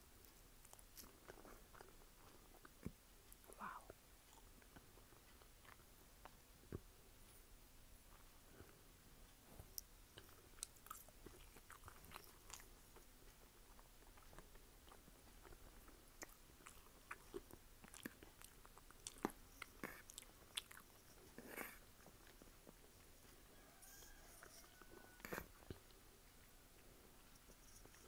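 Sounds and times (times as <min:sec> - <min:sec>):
chewing crunchy food: 0:00.2 - 0:06.4, 0:09.8 - 0:28.0.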